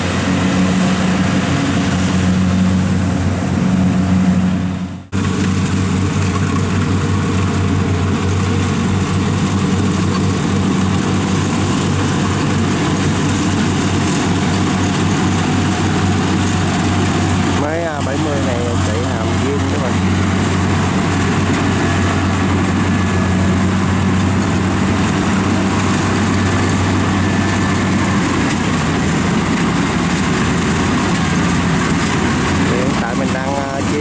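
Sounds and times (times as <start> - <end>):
combine harvester engine running: 0.0 - 34.0
machinery noise: 0.0 - 34.0.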